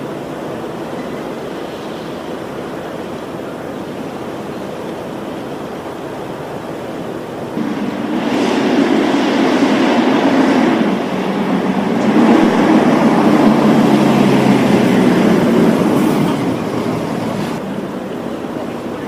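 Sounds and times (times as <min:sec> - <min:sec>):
fire engine diesel engine rumble: 0:00.0 - 0:19.0.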